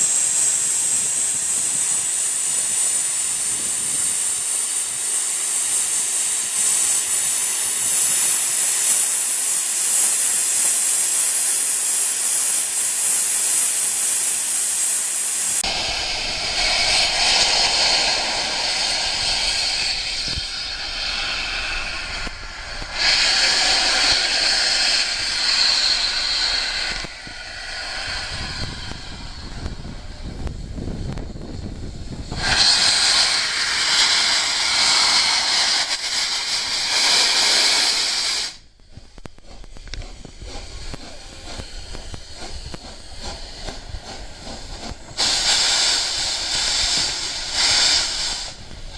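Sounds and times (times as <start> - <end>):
steam hissing from locomotive: 0.0 - 48.9.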